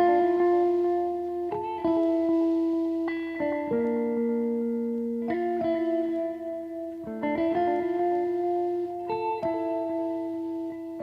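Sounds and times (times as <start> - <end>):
plucked guitar notes: 0.0 - 11.0.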